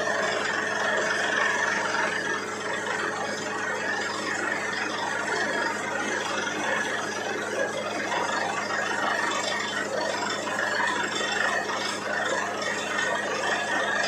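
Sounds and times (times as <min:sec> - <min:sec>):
drilling rig running: 0:00.0 - 0:14.0.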